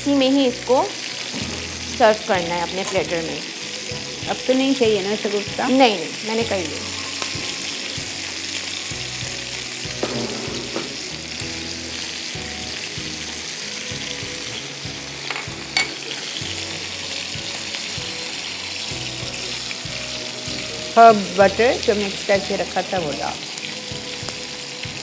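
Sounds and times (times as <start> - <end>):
fish sizzling in butter: 0.0 - 25.0.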